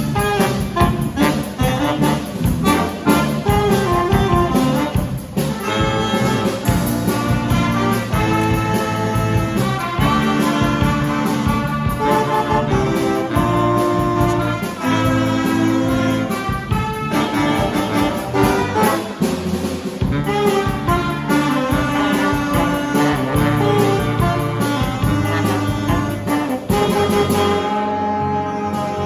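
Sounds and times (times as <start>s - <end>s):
jazz band playing: 0.0s - 29.0s.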